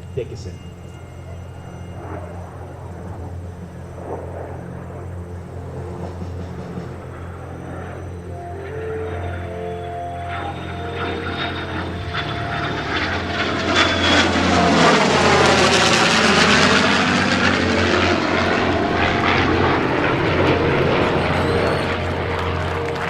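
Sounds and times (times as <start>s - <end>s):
jet engines flying past: 0.0s - 23.0s
propeller plane engine: 0.0s - 23.0s.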